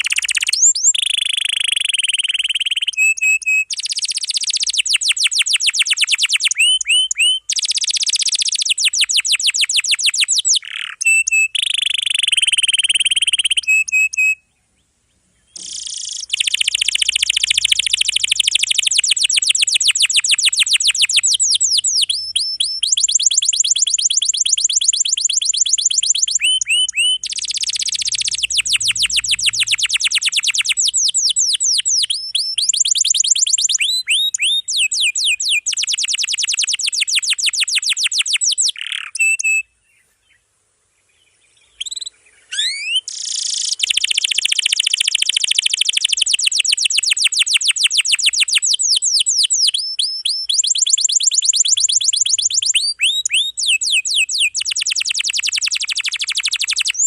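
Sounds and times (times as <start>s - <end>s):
canary singing trills: 0.0s - 40.4s, 41.4s - 57.0s.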